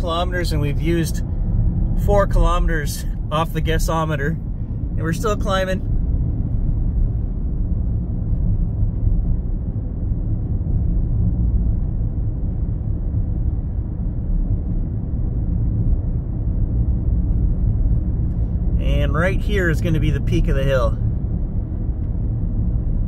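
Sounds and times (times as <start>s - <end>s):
road and tyre rumble in car: 0.0s - 23.0s.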